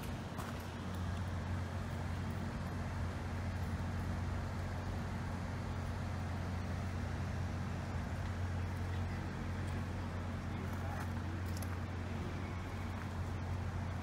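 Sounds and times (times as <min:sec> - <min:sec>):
low mechanical hum: 0:00.0 - 0:14.0
street noise: 0:00.0 - 0:14.0.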